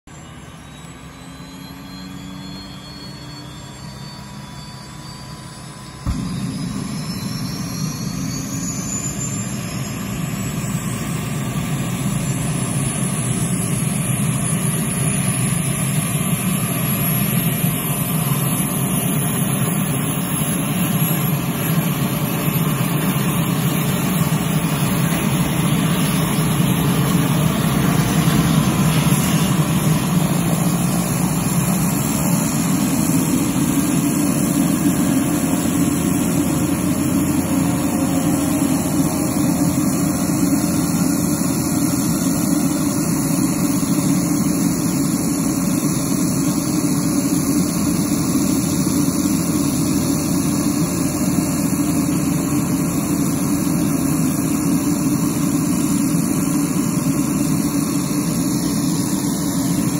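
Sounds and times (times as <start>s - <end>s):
plane engines whining: 0.0s - 59.9s
low engine rumble: 0.2s - 59.9s.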